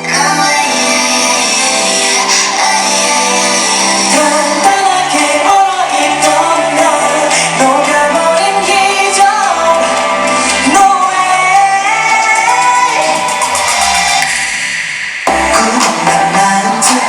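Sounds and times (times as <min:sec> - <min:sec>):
backing track with bass and synths: 0:00.0 - 0:17.0
boy group singing pop song: 0:00.0 - 0:17.0.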